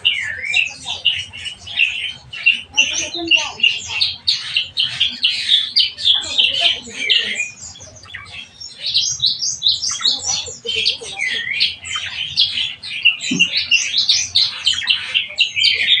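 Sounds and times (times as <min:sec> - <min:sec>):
myna calling with whistled notes: 0:00.0 - 0:16.0.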